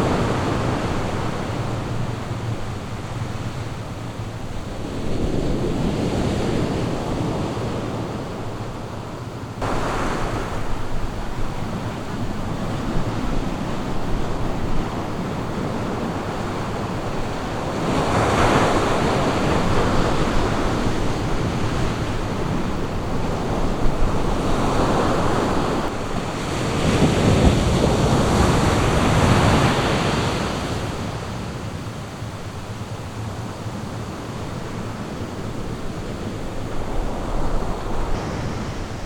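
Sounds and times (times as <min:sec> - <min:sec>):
ocean waves breaking on beach: 0:00.0 - 0:39.0.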